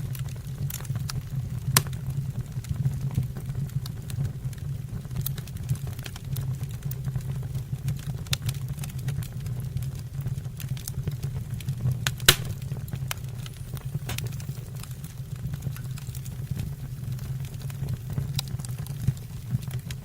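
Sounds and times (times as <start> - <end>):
fire flames rumbling: 0.0 - 20.0
logs crackling and popping: 0.0 - 20.0.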